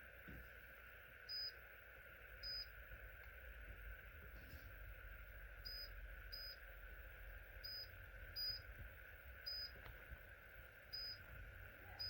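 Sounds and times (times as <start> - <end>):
humidifier hum: 0.0 - 12.0.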